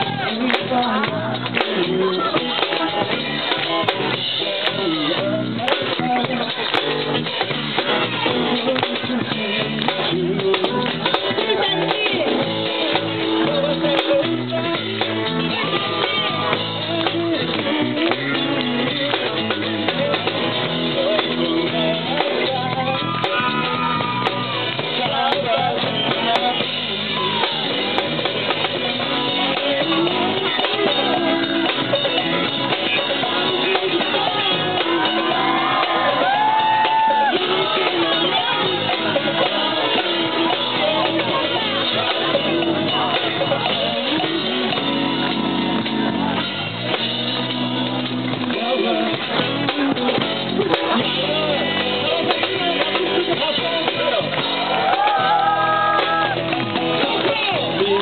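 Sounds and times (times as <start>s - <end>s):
person singing: 0.0s - 46.3s, 48.5s - 58.0s
drum kit: 0.0s - 58.0s
guitars: 0.0s - 58.0s.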